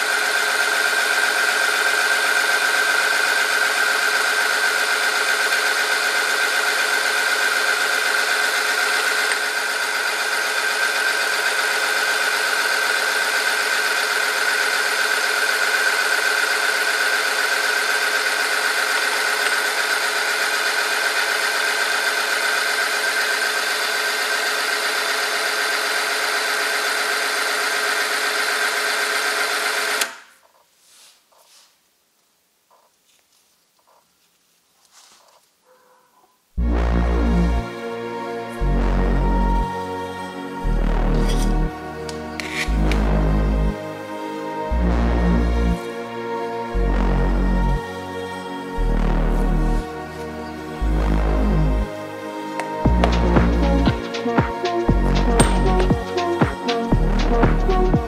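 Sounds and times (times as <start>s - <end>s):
machine whining: 0.0s - 30.3s, 36.6s - 58.0s.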